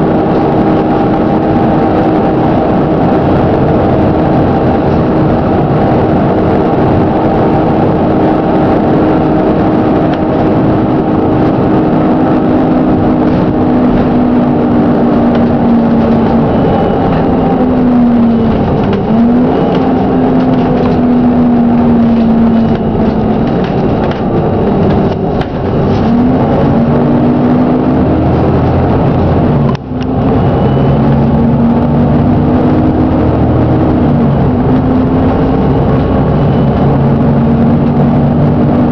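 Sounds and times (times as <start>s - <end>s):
bus engine knocking: 0.0s - 38.9s
transmission whine sliding in pitch: 0.0s - 38.9s.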